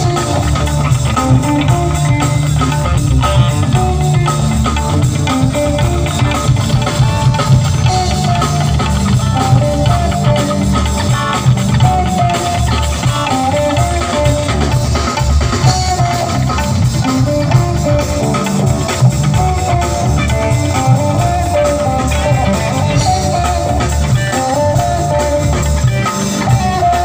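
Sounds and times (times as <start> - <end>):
drum kit: 0.0 - 27.0
heavy bass line: 0.0 - 27.0
sitar melody: 0.0 - 27.0.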